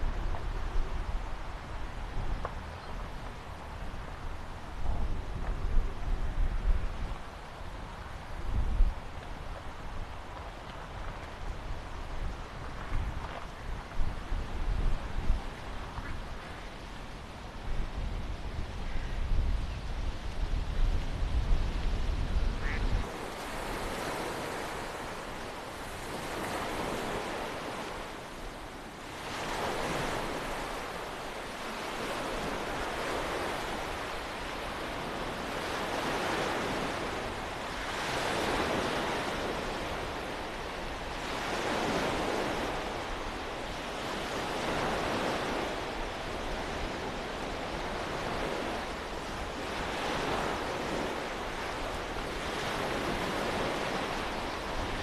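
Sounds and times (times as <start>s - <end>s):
small waves washing onto beach: 0.0s - 55.0s
wind buffeting microphone: 0.0s - 55.0s.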